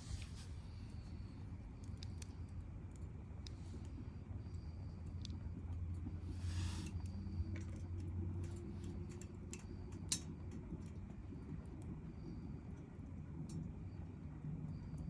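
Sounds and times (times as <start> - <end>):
campfire crackling: 0.0 - 15.0
fire popping: 0.0 - 15.0
low rumble of fire: 0.0 - 15.0.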